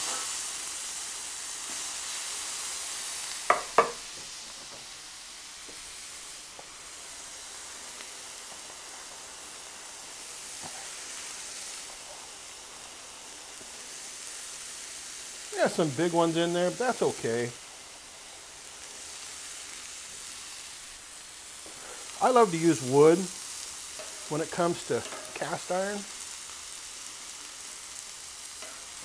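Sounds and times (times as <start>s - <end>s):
meat sizzling on griddle: 0.0s - 29.0s.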